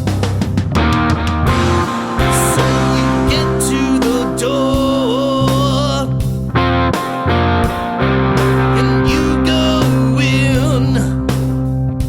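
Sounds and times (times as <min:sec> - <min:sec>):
rock song with distorted guitar: 0:00.0 - 0:12.0.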